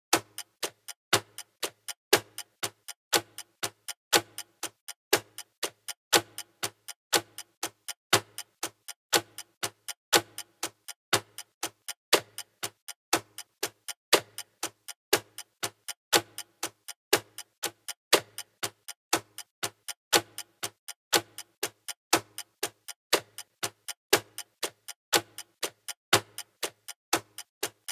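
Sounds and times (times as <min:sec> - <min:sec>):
clock ticking: 0:00.1 - 0:27.9.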